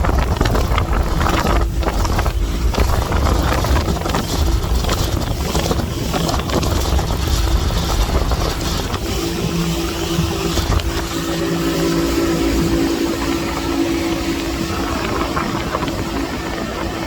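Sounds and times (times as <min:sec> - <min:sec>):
motorboat engine droning: 0:00.0 - 0:17.0
wind buffeting microphone: 0:00.0 - 0:17.0.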